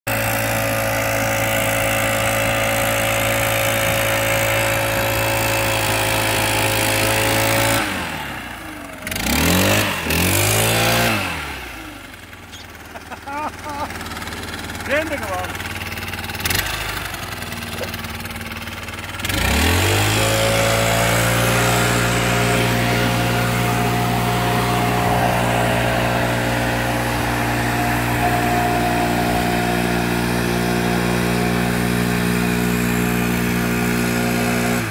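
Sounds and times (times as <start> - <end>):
leaf blower engine whining: 0.1 - 34.9.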